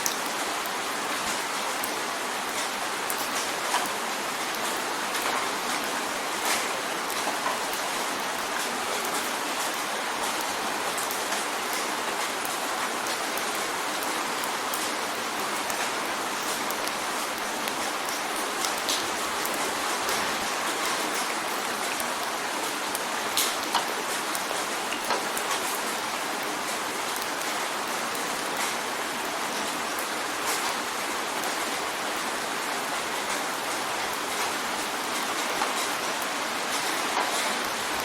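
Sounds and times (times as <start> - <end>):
rain drumming on window: 0.0 - 38.0.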